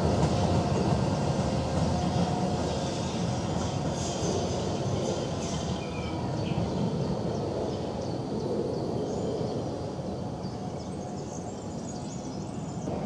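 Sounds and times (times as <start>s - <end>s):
tram rumbling along track: 0.0s - 13.0s.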